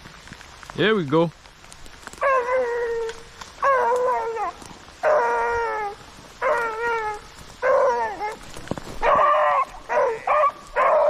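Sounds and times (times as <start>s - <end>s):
hound howling: 2.1s - 11.0s.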